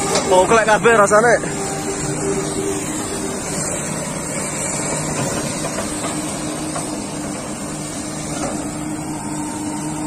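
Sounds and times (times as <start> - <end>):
excavator diesel engine humming: 0.0 - 10.0.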